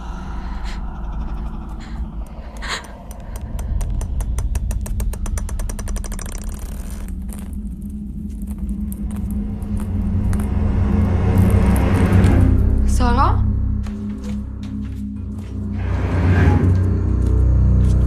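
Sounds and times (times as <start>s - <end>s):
low rumbling drone: 0.0s - 18.0s.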